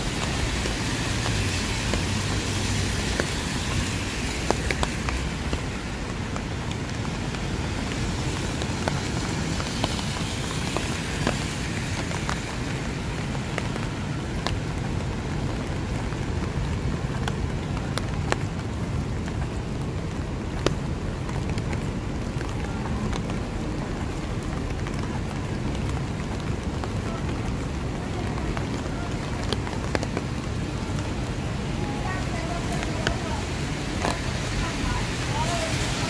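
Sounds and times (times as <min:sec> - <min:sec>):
city traffic noise: 0:00.0 - 0:36.0
steady rain: 0:00.0 - 0:36.0.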